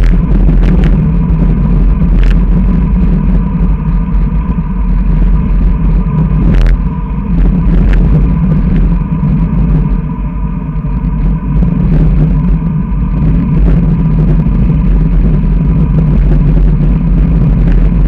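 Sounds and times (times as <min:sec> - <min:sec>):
heavy wind rumble on microphone: 0:00.0 - 0:18.0.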